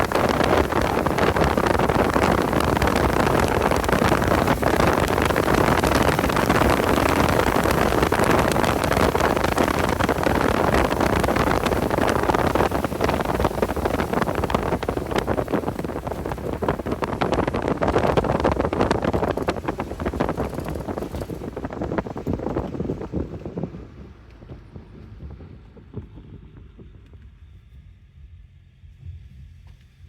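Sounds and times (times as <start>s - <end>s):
car engine at speed: 0.0s - 29.8s
wind buffeting the microphone: 0.0s - 29.8s.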